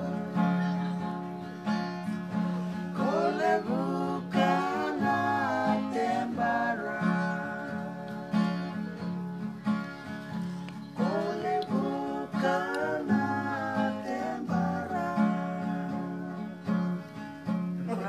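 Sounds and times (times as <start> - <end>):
person singing: 0.0 - 1.3, 2.4 - 10.1, 10.7 - 17.1
acoustic guitar strumming: 0.0 - 18.0.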